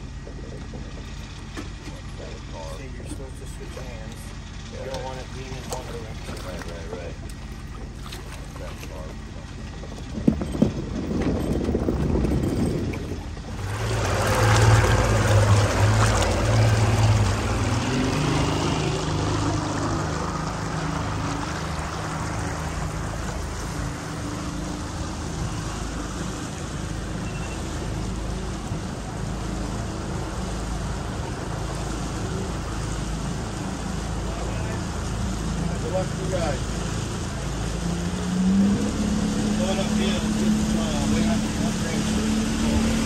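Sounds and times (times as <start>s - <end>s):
motorboat engine idling: 0.0s - 43.0s.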